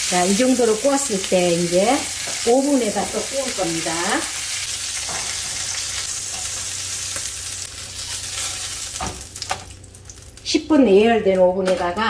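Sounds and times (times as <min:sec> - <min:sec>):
duck sizzling in fat: 0:00.0 - 0:10.5.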